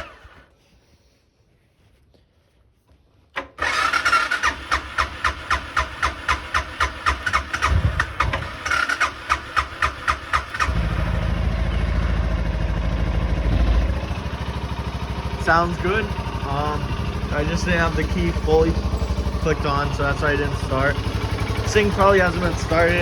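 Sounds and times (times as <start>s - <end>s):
engine cranking on starter: 0.0s - 0.5s, 3.4s - 23.0s
motorcycle engine idling: 3.6s - 23.0s.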